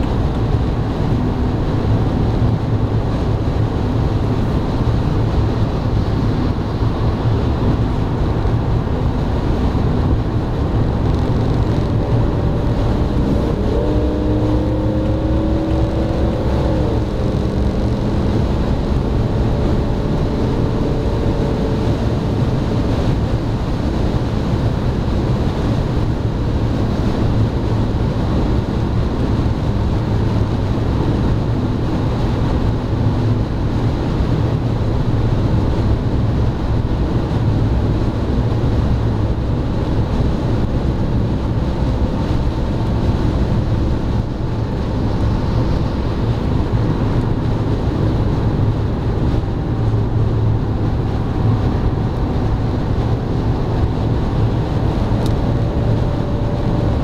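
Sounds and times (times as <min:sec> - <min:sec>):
low drone: 0:00.0 - 0:57.0
tyre and wind noise: 0:00.0 - 0:57.0.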